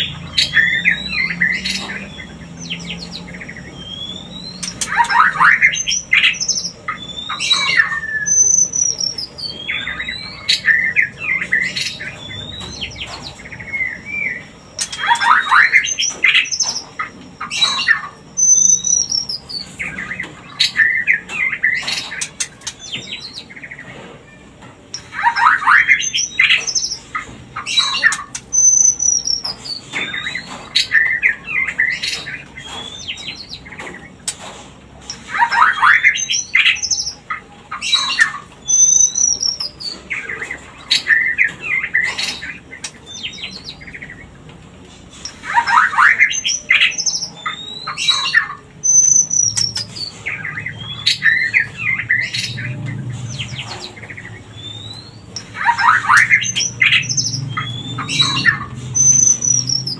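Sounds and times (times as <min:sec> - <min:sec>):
bird chattering and whistling: 0:00.0 - 0:44.4, 0:45.1 - 0:59.9.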